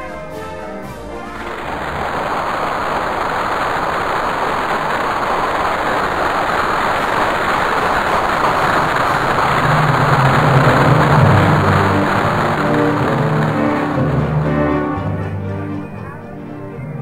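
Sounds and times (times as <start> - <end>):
crowd cheering roar: 1.2 - 17.0.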